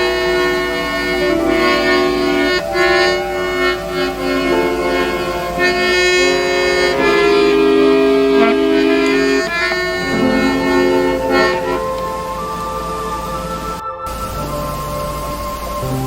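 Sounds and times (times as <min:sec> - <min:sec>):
slow reedy wind instrument melody: 0:00.0 - 0:16.0.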